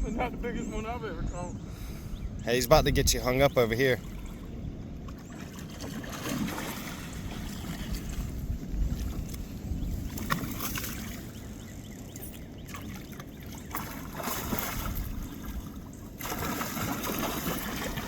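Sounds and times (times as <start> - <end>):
wind rumbling on microphone: 0.0 - 18.0
water splashing and trickling: 3.2 - 18.0.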